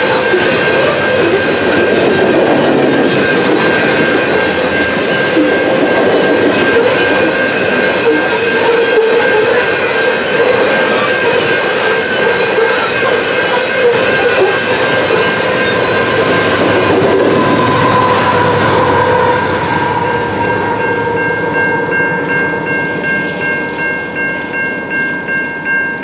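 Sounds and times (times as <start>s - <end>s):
freight train rumbling past: 0.0s - 26.0s
high ringing tone: 0.0s - 26.0s.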